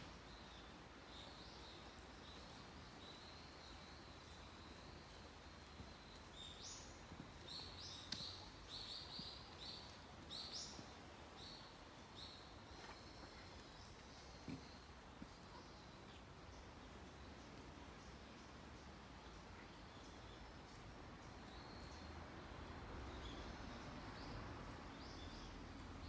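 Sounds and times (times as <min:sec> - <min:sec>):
quiet outdoor ambience: 0:00.0 - 0:26.0.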